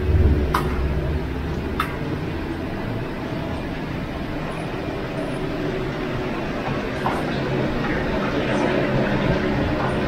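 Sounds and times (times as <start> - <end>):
gas burners roaring: 0.0 - 10.0.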